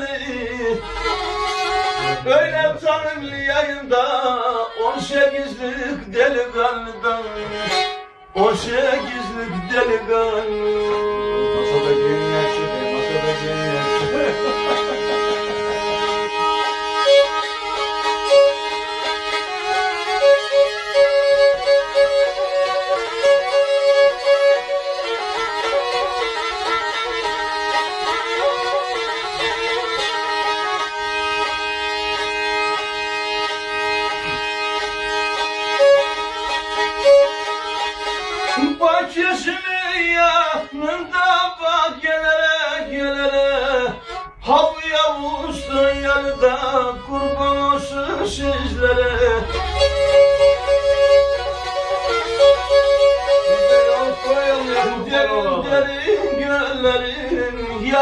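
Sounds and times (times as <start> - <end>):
bowed folk fiddle: 0.0 - 58.0.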